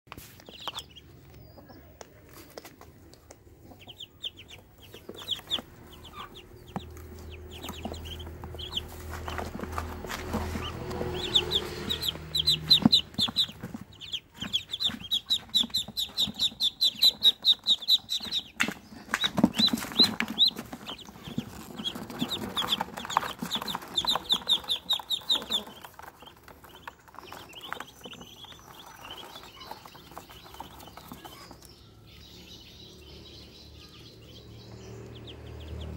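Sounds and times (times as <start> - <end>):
ducklings peeping: 0.1 - 35.9.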